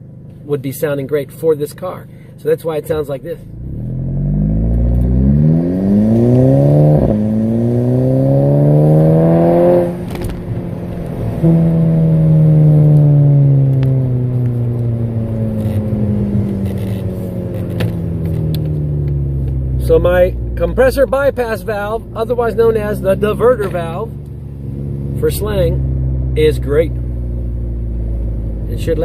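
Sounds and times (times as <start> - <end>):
car engine revving through gears: 3.4 - 29.0.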